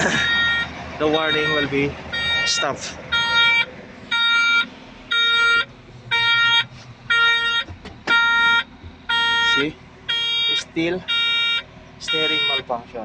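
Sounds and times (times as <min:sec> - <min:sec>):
warning alarm beeping: 0:00.0 - 0:12.8.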